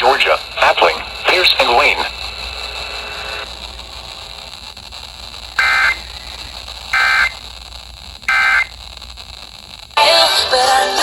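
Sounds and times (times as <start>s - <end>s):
buzzy digital data bursts: 0.0s - 9.5s
steady background hiss: 0.0s - 11.0s.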